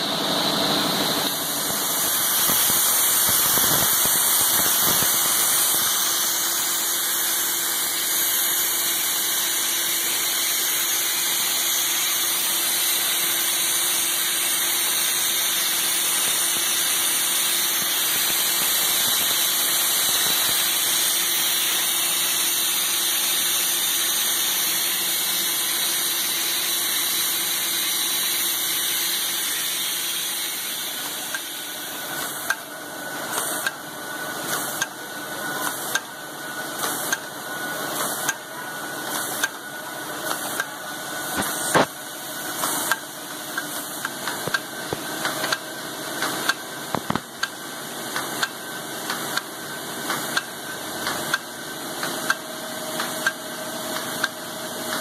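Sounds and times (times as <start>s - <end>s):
machine line hissing: 0.0s - 55.0s.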